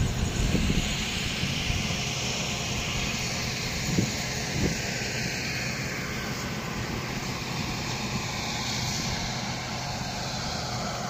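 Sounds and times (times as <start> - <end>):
forage harvester droning: 0.0 - 11.0.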